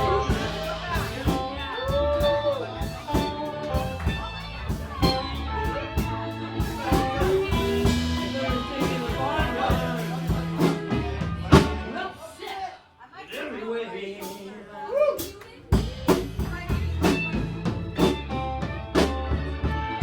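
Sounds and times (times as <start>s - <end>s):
live blues-rock band playing: 0.0s - 12.2s, 15.6s - 20.0s.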